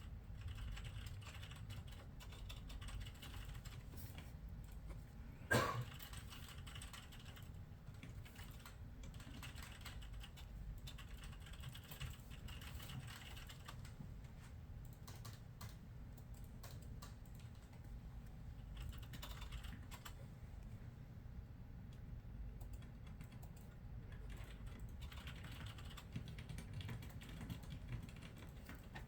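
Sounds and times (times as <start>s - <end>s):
keyboard typing: 0.0s - 5.0s, 5.9s - 14.0s, 14.8s - 18.0s, 18.6s - 20.2s, 22.5s - 29.0s.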